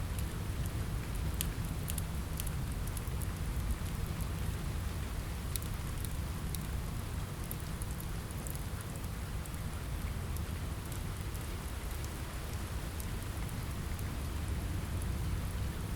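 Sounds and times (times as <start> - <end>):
rain on a window: 0.0 - 15.9
wood fire crackling: 0.0 - 15.9.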